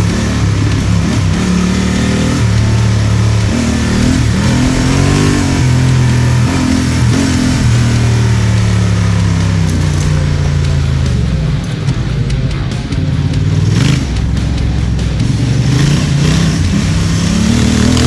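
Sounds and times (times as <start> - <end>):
motorcycle engine revving: 0.0 - 18.0
steady rushing noise: 0.0 - 18.0.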